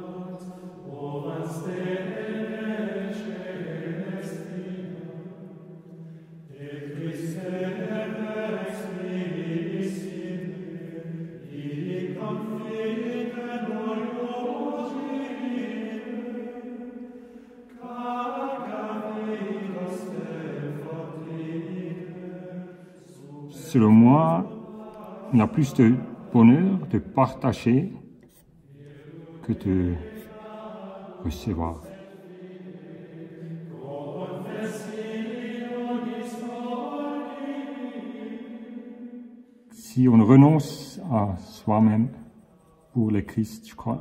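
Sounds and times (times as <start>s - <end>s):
men singing plainchant: 0.0s - 5.5s, 6.5s - 27.3s, 28.7s - 39.2s.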